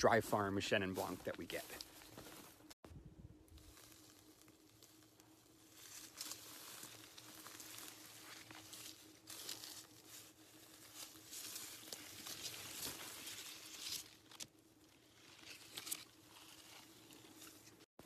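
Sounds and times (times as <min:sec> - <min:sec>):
faint steady hum: 0:00.0 - 0:17.9
leaves rustling and crackling: 0:01.0 - 0:02.8, 0:03.4 - 0:17.9.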